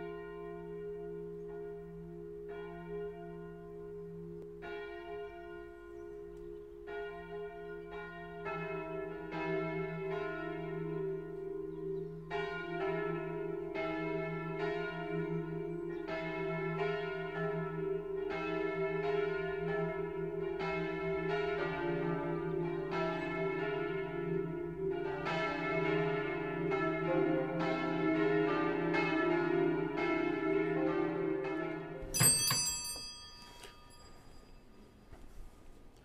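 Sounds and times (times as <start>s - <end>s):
church bells ringing: 0.0s - 34.8s.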